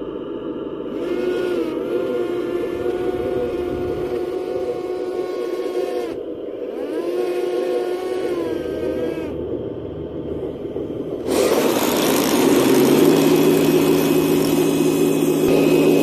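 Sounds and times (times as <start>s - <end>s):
simulated tank engine: 0.0s - 16.0s.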